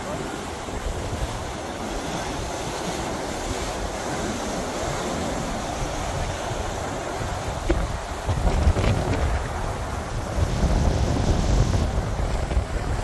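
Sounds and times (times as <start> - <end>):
surf breaking and washing ashore: 0.0 - 13.0
wind buffeting microphone: 0.0 - 13.0.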